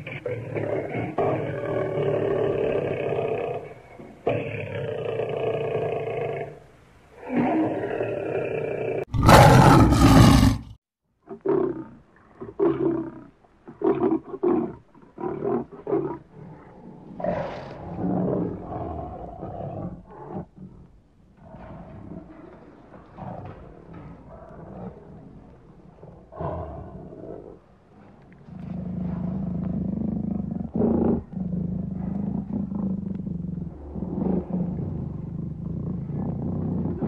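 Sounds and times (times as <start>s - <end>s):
lion roaring: 0.0s - 6.6s, 7.2s - 10.8s, 11.4s - 37.0s.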